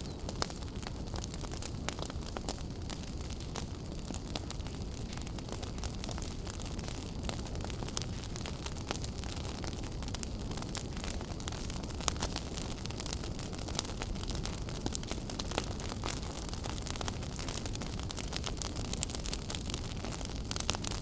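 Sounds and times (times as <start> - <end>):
fire crackles and pops: 0.0 - 21.0
wood fire roaring: 0.0 - 21.0.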